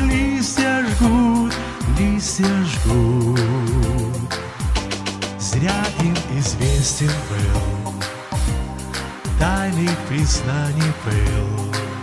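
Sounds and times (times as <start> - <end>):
pop song with steady beat: 0.0 - 12.0.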